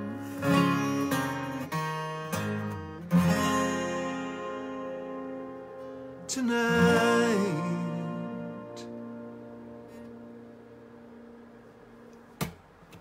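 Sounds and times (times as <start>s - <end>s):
acoustic guitar strumming: 0.0s - 12.1s.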